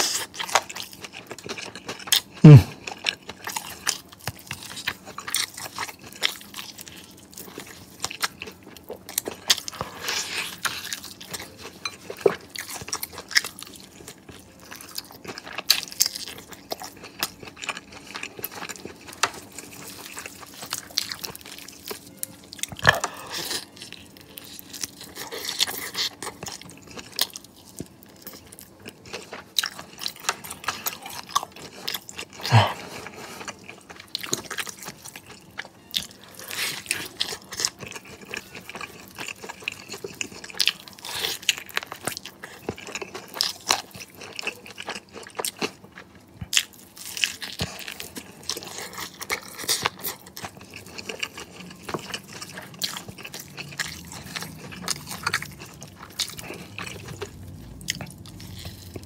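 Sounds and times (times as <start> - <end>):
crunching and chewing chicken: 0.0 - 59.0.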